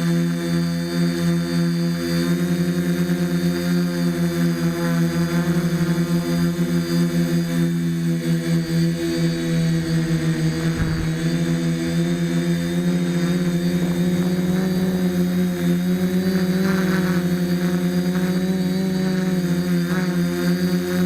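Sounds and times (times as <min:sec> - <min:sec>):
quadcopter motors humming: 0:00.0 - 0:21.0.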